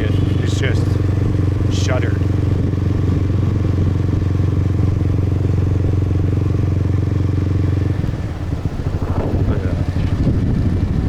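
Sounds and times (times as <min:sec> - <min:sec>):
motorbike engine droning: 0:00.0 - 0:11.0.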